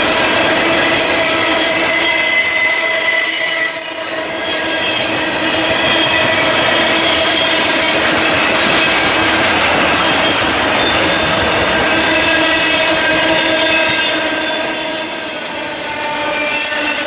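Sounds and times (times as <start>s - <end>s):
freight train wheels rumbling: 0.0s - 17.0s
wheels squealing: 0.0s - 17.0s.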